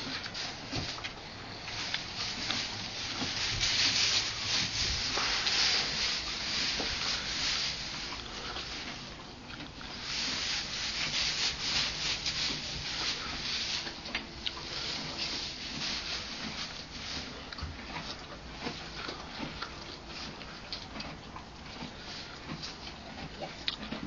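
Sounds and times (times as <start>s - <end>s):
ponies rustling dry hay: 0.0s - 24.0s.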